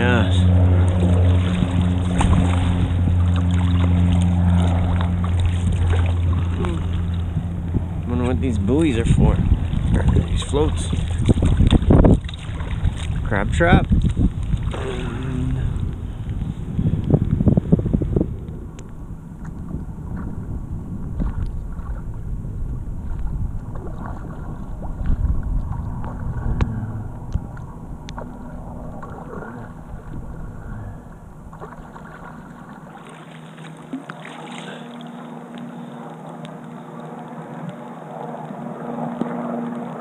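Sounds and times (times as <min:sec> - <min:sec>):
wind rumbling on microphone: 0:00.0 - 0:33.2
paddle splashing and dripping: 0:00.4 - 0:17.4, 0:18.4 - 0:40.0.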